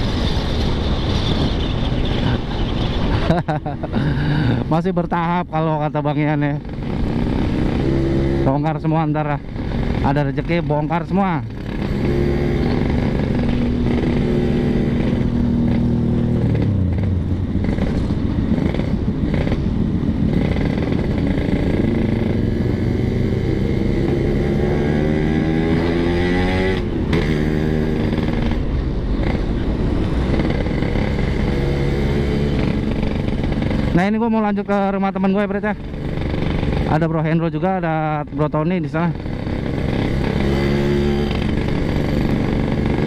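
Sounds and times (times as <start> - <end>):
two-stroke motorcycle engine: 3.1 - 43.0.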